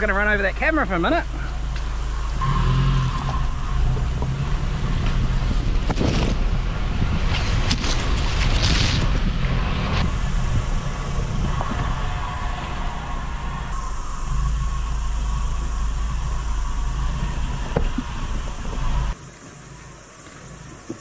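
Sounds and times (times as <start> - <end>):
van engine running: 0.0 - 21.0.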